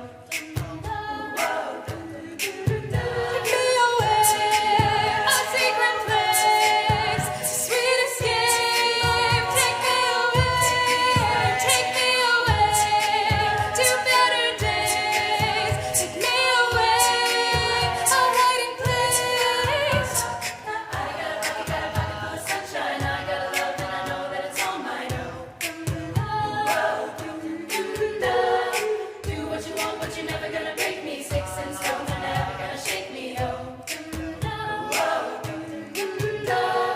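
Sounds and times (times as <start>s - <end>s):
group singing in harmony: 0.0s - 36.9s
vocal percussion beat: 0.0s - 36.9s.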